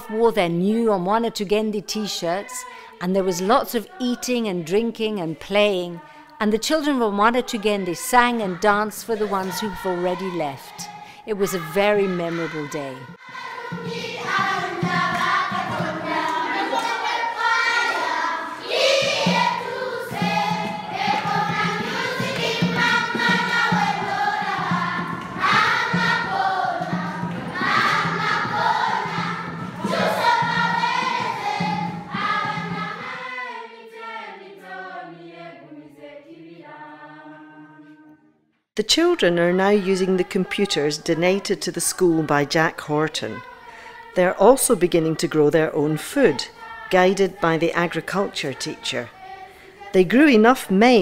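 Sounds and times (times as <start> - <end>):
children singing: 1.8 - 38.1, 39.4 - 50.1.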